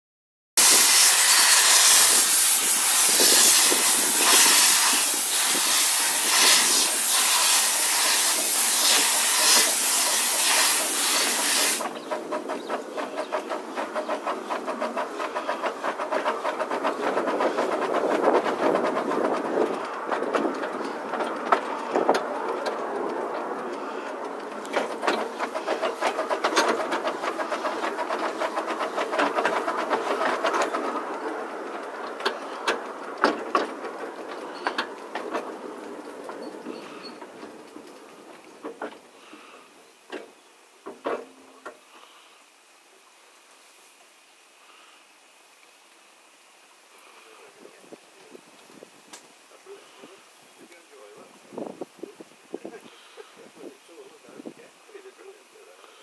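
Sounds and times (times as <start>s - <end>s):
train wheels clicking on track: 0.6s - 42.6s, 47.0s - 56.0s
steam train hissing: 0.6s - 45.4s, 46.9s - 56.0s.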